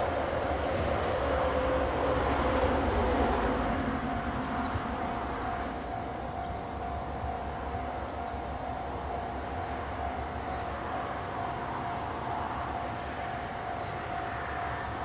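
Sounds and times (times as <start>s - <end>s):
diesel railcar engine rumble: 0.0s - 15.0s.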